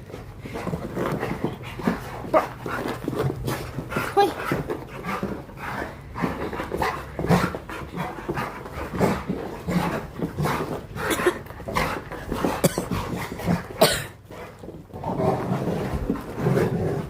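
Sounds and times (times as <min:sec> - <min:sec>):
dogs panting and whimpering: 0:00.0 - 0:15.0.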